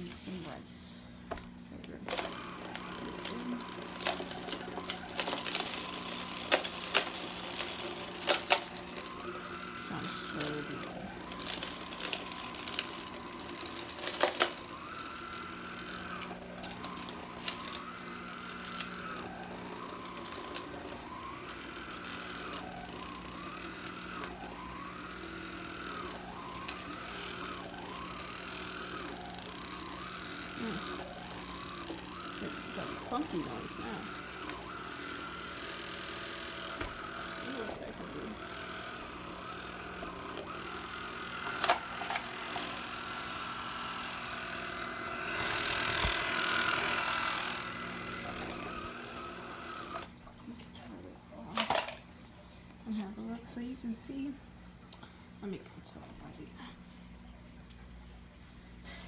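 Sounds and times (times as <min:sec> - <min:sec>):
vacuum motor humming: 0:00.0 - 0:59.0.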